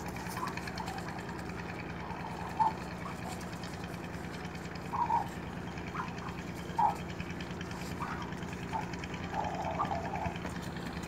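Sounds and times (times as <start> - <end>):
ostrich chicks calling: 0.0 - 11.0
steady low hum: 0.0 - 11.0.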